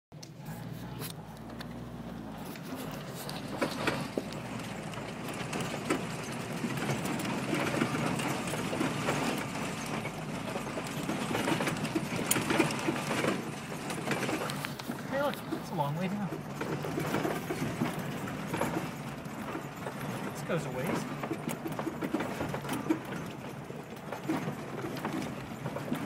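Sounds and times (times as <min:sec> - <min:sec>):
low engine rumble: 0:00.1 - 0:26.0
tyres crunching over loose rock: 0:00.6 - 0:26.0
knocks and rattles: 0:01.1 - 0:26.0.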